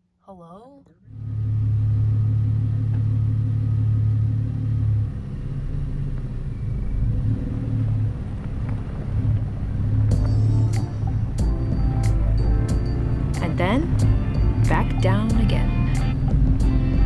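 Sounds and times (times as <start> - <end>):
vehicle engine droning: 1.0 - 17.0.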